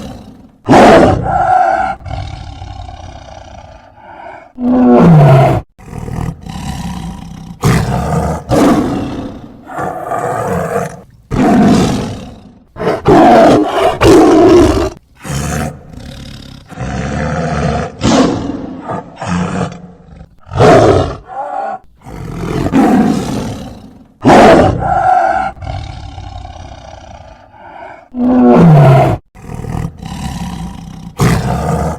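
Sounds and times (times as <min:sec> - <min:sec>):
tiger roaring: 0:00.0 - 0:31.9.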